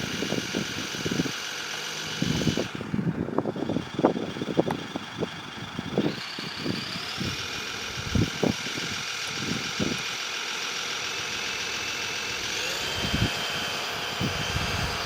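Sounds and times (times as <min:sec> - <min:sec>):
simulated diesel truck engine: 0:00.0 - 0:15.0.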